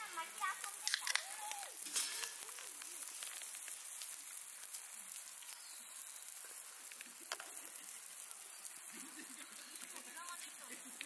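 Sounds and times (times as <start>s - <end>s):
skewers sizzling on grill: 0.0s - 11.0s.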